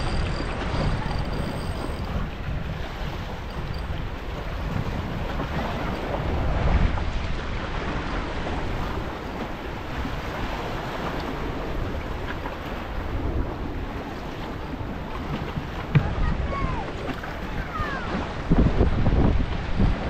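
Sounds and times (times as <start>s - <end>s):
sea waves washing against rocks: 0.0s - 20.0s
wind buffeting microphone: 0.0s - 20.0s.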